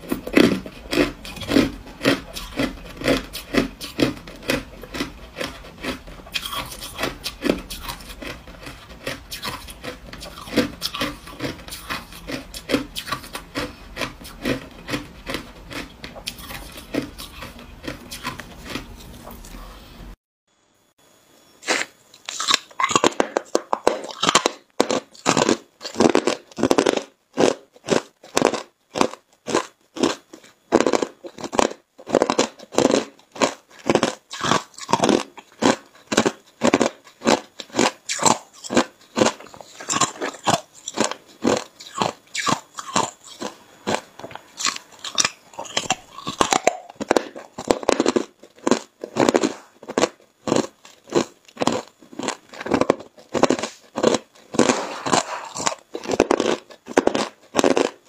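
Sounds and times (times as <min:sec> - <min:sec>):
crunching frozen ice pieces: 0:00.3 - 0:18.8, 0:21.6 - 0:58.0.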